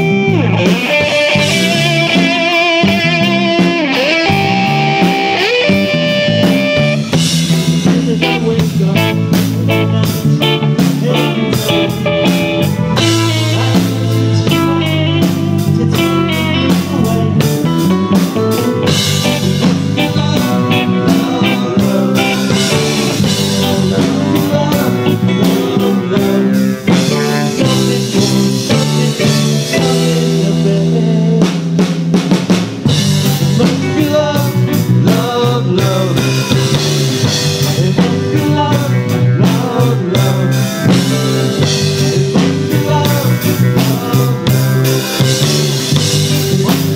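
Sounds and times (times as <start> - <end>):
drum kit: 0.0 - 46.9
electric bass guitar: 0.0 - 46.9
live rock band: 0.0 - 46.9.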